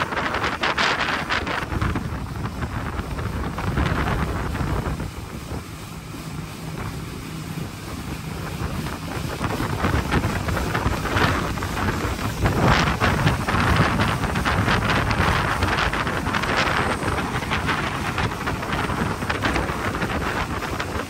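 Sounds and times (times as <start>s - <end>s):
motorboat engine hum: 0.0s - 21.0s
water rushing past hull: 0.0s - 21.0s
wind buffeting microphone: 0.0s - 21.0s.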